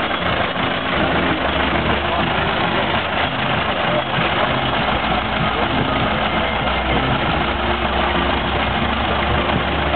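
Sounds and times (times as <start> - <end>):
engine idling: 0.0 - 9.9.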